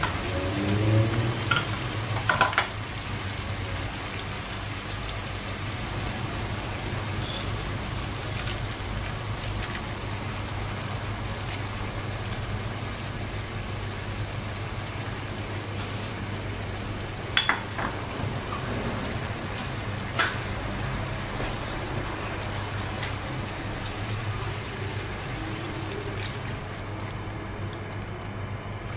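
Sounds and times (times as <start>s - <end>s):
pork frying with sizzling hiss: 0.0s - 28.9s.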